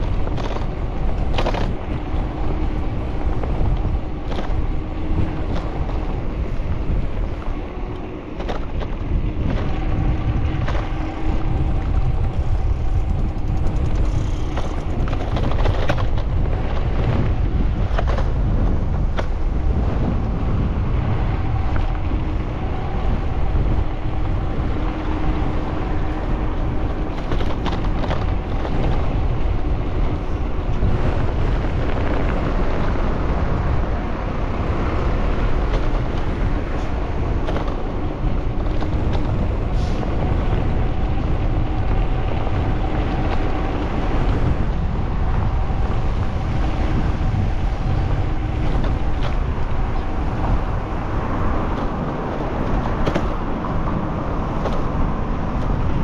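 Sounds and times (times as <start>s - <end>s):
road and traffic rumble: 0.0s - 56.0s
wind buffeting microphone: 0.0s - 56.0s.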